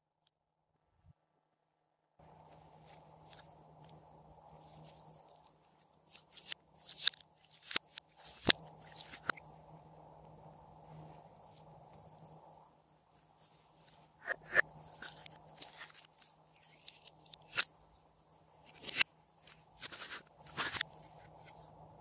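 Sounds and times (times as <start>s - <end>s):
faint steady hiss and hum: 0.0s - 22.0s.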